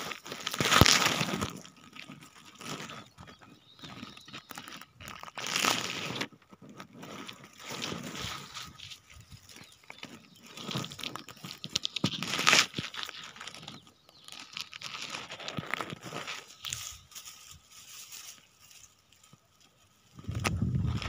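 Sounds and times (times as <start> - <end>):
dry grass rustling and crackling: 0.0 - 21.0.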